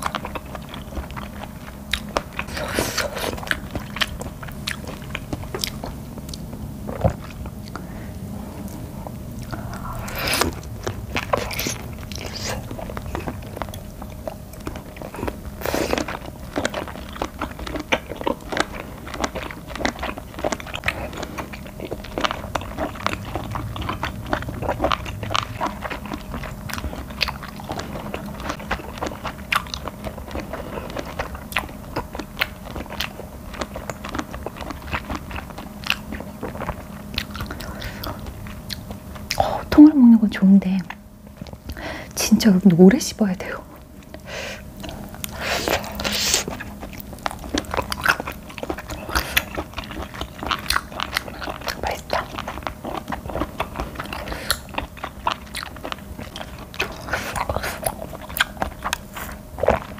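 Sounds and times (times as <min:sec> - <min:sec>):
chewing with mouth clicks: 0:00.0 - 0:39.9, 0:40.7 - 0:42.9, 0:43.5 - 0:59.9.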